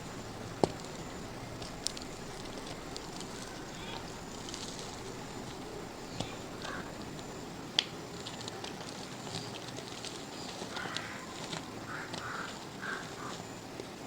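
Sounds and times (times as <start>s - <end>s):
dried mud crumbling: 0.0s - 13.5s.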